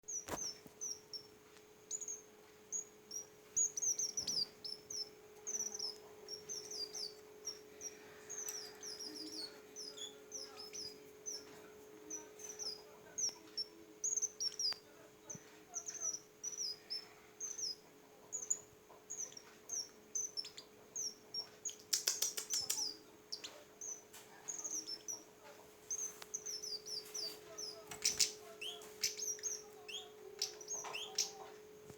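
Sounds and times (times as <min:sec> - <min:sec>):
songbird chirping: 0:00.0 - 0:31.9.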